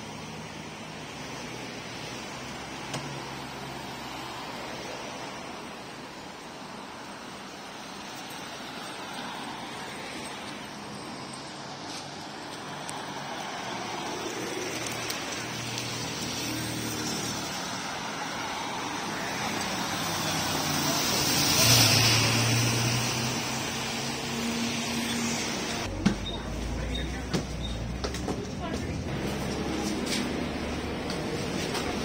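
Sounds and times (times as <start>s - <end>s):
bus diesel engine: 0.0s - 32.0s
road traffic: 0.0s - 32.0s.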